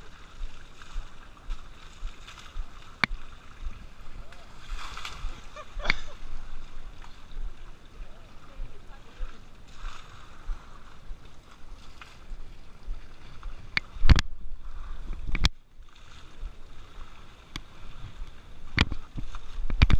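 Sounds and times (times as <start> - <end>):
water sloshing and splashing: 0.0 - 19.9.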